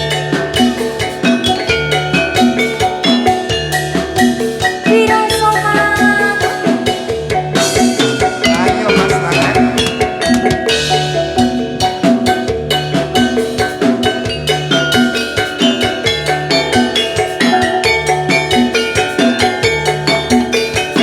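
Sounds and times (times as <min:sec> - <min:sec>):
steady drumming: 0:00.0 - 0:21.0
tuned mallet percussion melody: 0:00.0 - 0:21.0.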